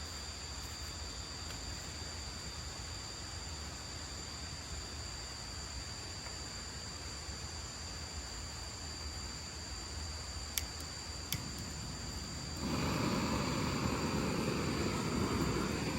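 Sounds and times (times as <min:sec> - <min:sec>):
high-pitched insect chorus: 0:00.0 - 0:15.9.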